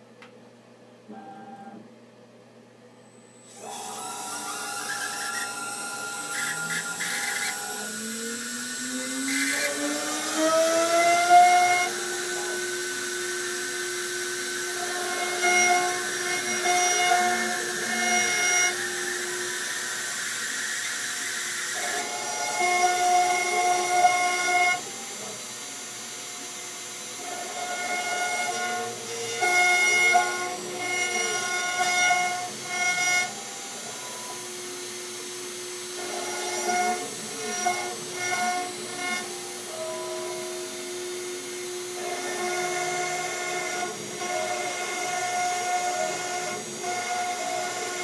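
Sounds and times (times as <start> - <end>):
steady machine hum: 0.0 - 48.0
stepper motors whining: 3.4 - 48.0.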